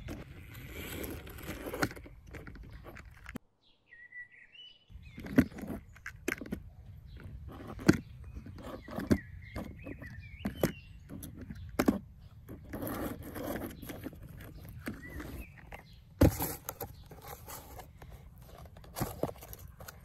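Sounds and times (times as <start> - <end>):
toy scraping across cardboard: 0.0 - 3.4, 5.2 - 20.0
birds chirping: 0.0 - 20.0.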